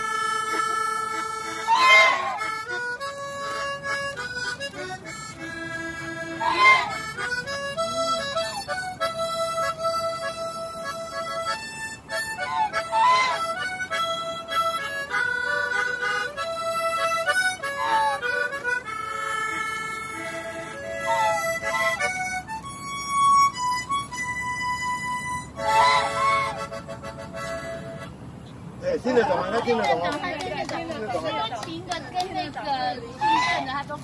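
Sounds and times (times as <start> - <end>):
harmonica playing chords: 0.0 - 28.3.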